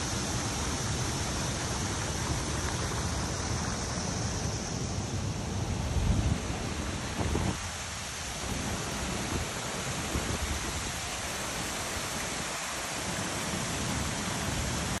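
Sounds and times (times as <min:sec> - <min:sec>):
wind buffeting microphone: 0:00.0 - 0:12.4
steady rushing noise: 0:00.0 - 0:15.0.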